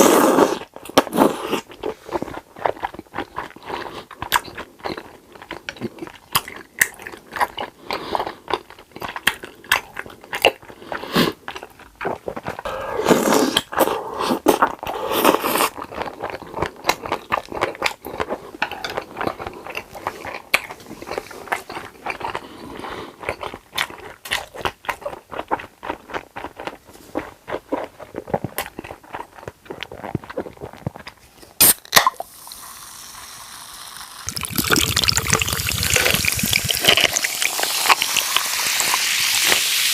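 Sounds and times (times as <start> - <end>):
crunching and chewing fried food: 0.0 - 32.3, 34.2 - 39.8
wet mouth sounds: 0.0 - 32.4, 34.2 - 39.9.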